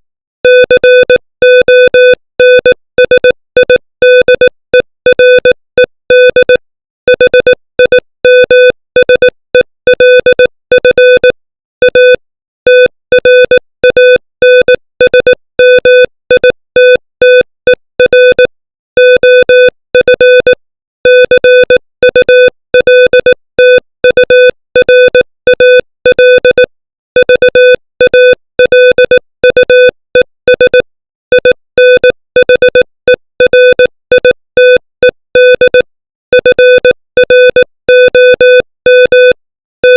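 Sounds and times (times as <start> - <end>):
morse code beeps: 0.5 - 39.9.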